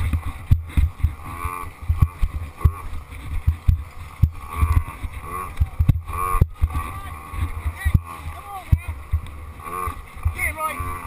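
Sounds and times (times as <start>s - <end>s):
dirt bike engine revving: 0.0s - 11.0s
thumps from bumps: 0.0s - 11.0s
wind rumble on microphone: 0.0s - 11.0s.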